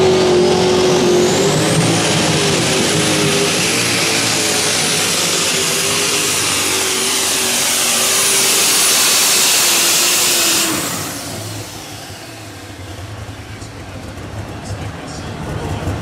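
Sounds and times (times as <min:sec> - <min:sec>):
tractor engine at full power: 0:00.0 - 0:16.0.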